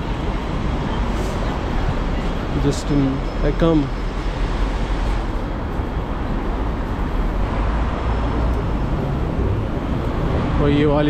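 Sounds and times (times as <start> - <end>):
city street traffic hum: 0.0 - 11.0.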